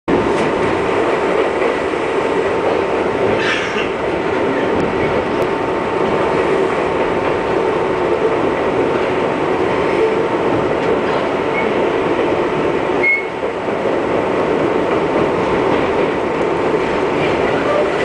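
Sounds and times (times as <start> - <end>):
train wheels rumbling on rail: 0.1 - 18.0.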